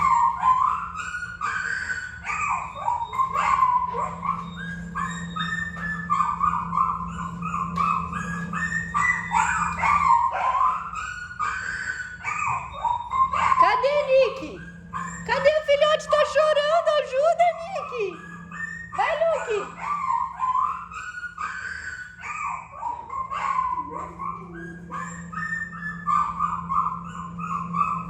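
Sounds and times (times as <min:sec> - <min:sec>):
puppies whimpering and yelping: 0:00.0 - 0:28.0
steady low hum: 0:00.0 - 0:28.0.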